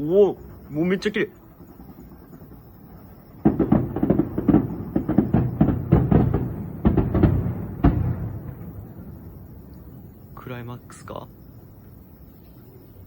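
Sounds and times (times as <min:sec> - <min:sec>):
fireworks bursting: 0:00.0 - 0:11.8.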